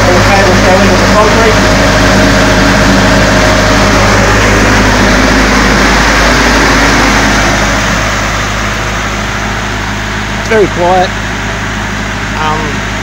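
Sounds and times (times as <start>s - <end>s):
diesel generator droning: 0.0s - 13.0s.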